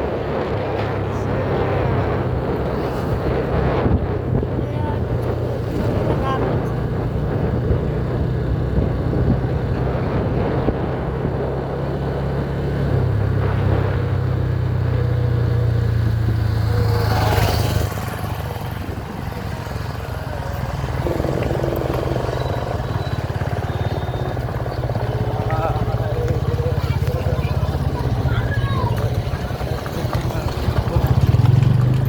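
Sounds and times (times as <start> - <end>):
motorcycle engine drone: 0.0 - 32.0.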